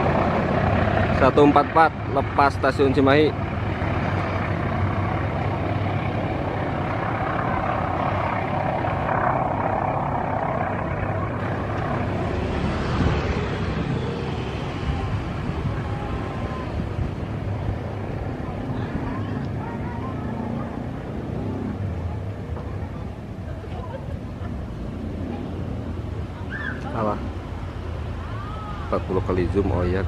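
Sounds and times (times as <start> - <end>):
diesel train engine rumble: 0.0 - 30.0.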